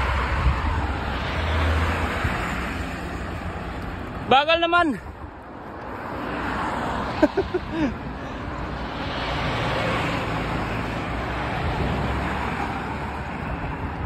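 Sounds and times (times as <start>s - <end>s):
wind rushing: 0.0s - 3.7s, 5.0s - 14.0s
road traffic noise: 0.0s - 14.0s.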